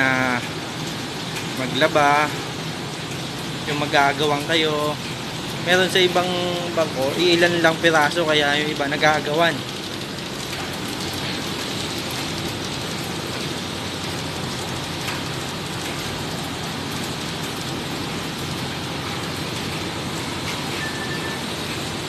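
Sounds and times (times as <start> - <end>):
washing machines and dryers whirring: 0.0 - 22.0.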